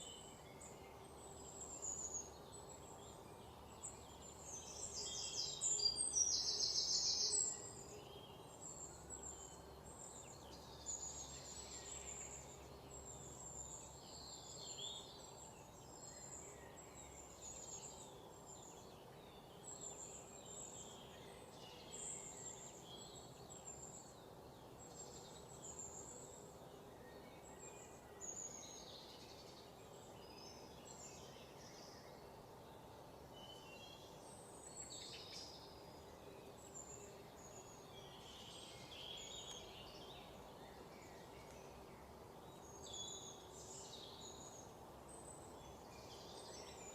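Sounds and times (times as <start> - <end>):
wild birds chirping: 0.0 - 46.9.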